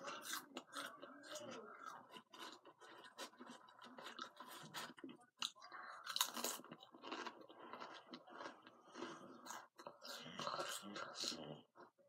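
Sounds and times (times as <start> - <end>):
chewing crunchy chips: 0.0 - 12.0.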